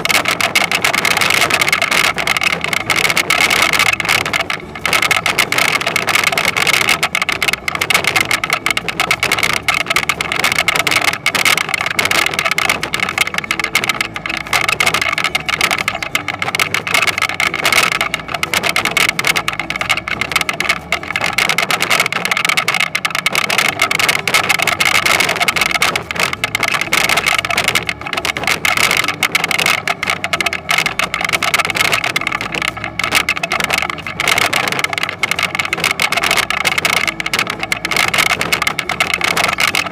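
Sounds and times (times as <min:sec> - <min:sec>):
dense constant rattle: 0:00.0 - 0:39.9
steady high whine: 0:00.0 - 0:39.9.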